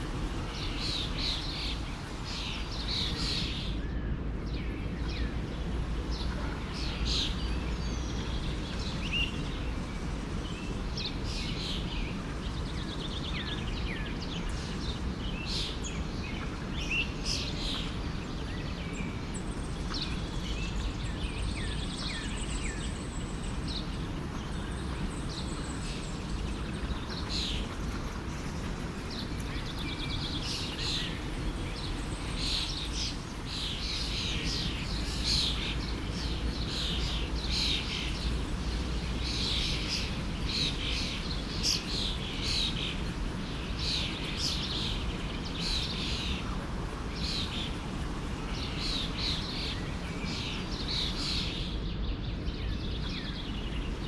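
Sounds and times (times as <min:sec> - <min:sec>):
forest stream rushing: 0:00.0 - 0:03.8, 0:04.8 - 0:19.3, 0:23.6 - 0:51.8, 0:52.5 - 0:54.0
small birds chirping: 0:00.0 - 0:03.8, 0:04.4 - 0:54.0.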